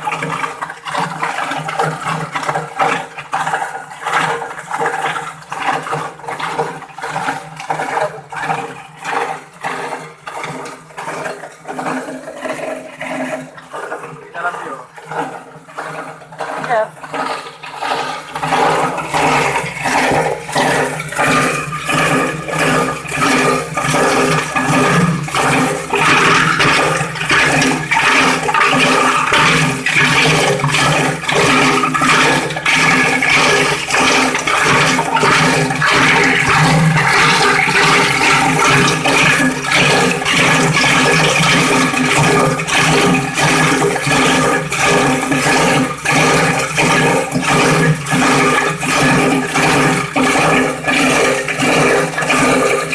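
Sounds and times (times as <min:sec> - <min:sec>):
plastic grinder chopping plastic: 0:00.0 - 0:52.9.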